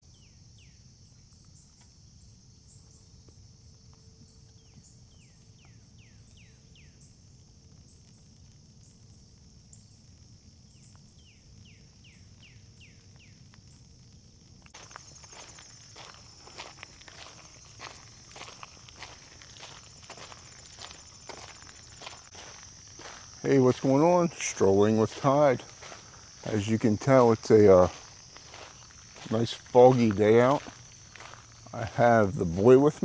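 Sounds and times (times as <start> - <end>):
insects chirping chorus: 0.0 - 33.0.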